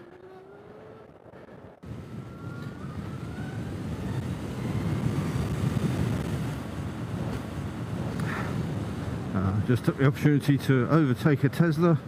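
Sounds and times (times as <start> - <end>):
wind rushing on microphone: 0.6 - 11.6.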